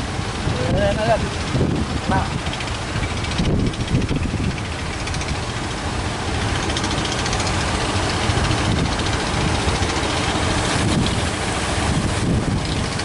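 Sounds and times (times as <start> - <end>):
engine running: 0.0 - 13.0
surf: 0.0 - 13.0
wind on microphone: 0.0 - 13.0.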